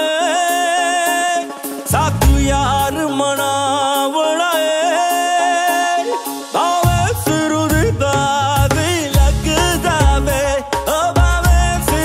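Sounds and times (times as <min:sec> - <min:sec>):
ornamented melody over bass beat: 0:00.0 - 0:12.0.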